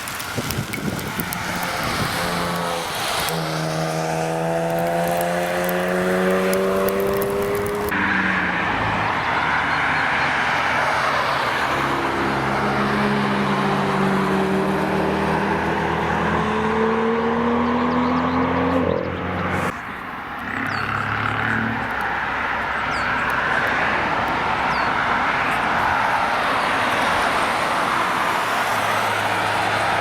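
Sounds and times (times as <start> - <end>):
tyres hissing on wet road: 0.0 - 16.4, 19.3 - 30.0
car engine accelerating: 0.4 - 30.0.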